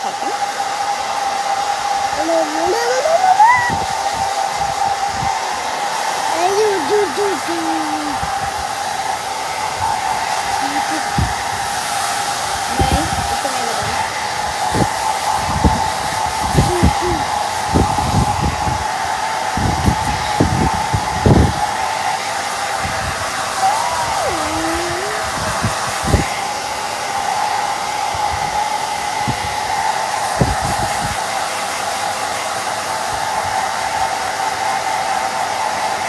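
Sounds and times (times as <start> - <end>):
airflow buffeting the microphone: 0.0 - 36.0
hair dryer running: 0.0 - 36.0.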